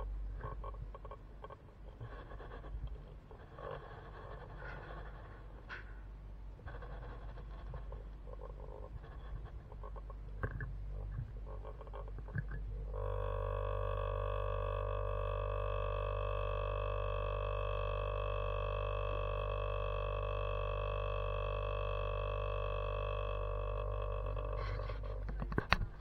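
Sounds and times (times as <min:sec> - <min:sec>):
machine spinner hum: 0:00.0 - 0:26.0.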